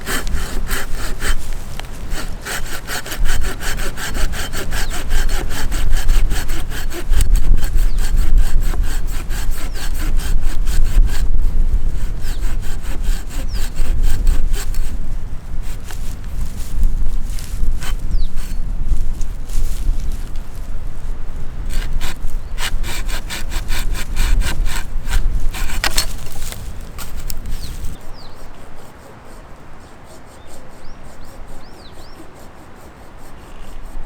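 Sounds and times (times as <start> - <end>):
hand saw cutting wood: 0.0 - 20.7, 21.7 - 34.0.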